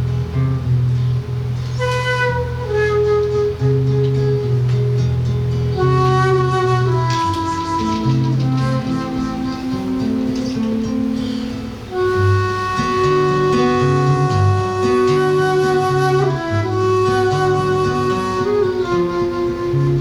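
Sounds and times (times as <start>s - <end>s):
plucked low accompaniment: 0.0s - 20.0s
flute playing slow melody: 1.4s - 20.0s.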